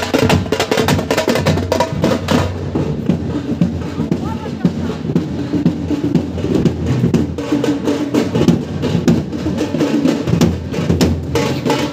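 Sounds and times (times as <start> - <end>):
large drums beaten fast: 0.0 - 11.9.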